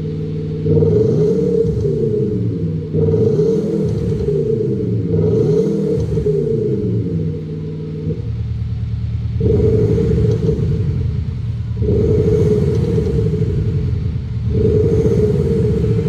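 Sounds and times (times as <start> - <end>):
deep exhaust rumble: 0.0 - 16.0.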